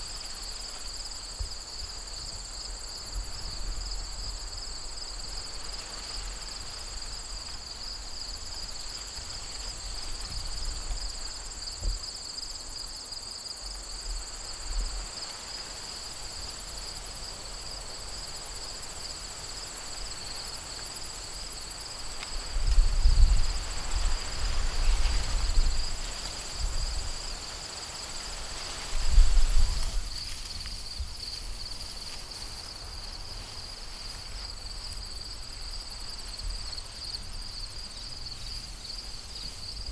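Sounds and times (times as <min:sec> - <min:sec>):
insects trilling: 0:00.0 - 0:39.9
wind rumble and rustle: 0:00.0 - 0:39.9.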